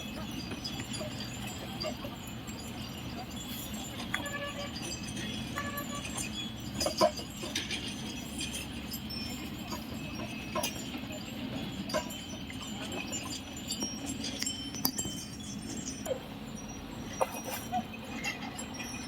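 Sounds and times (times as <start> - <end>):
bullock bells jingling: 0.0 - 19.0.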